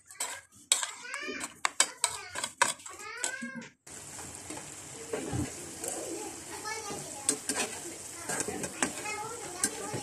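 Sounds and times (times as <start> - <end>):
frying sizzle: 0.0 - 10.0.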